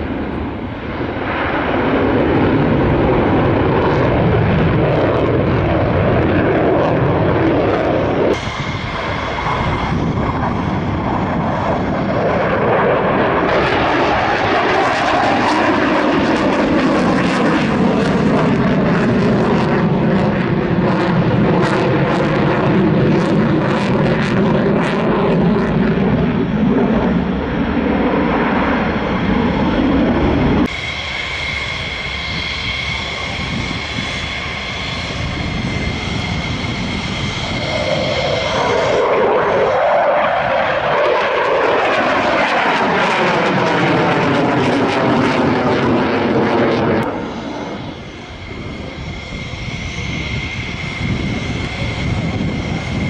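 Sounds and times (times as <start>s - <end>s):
high-pitched engine whine: 0.0s - 53.0s
jet fighter passing: 0.0s - 53.0s.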